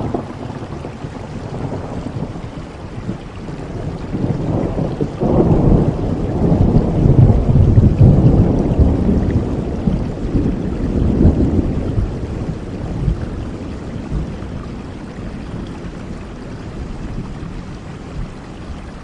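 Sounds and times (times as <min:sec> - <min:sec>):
thunder rolling: 0:00.0 - 0:16.1
rain falling: 0:00.0 - 0:19.0.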